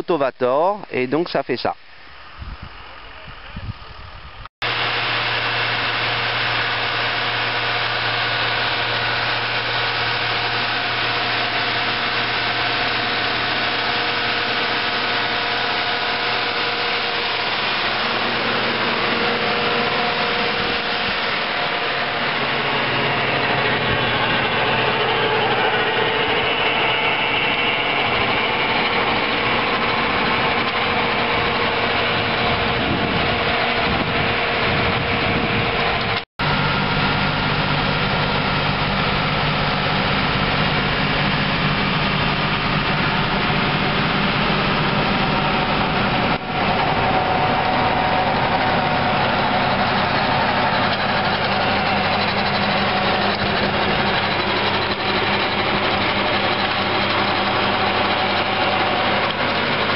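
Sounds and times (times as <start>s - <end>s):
tractor engine running: 0.0s - 59.9s
rotary tiller churning soil: 4.6s - 59.9s.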